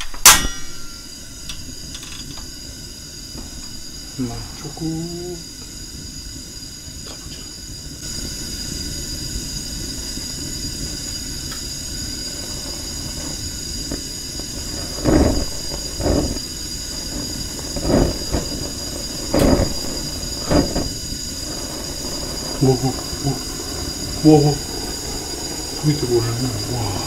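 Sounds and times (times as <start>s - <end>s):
gas burner hissing: 0.0s - 27.0s.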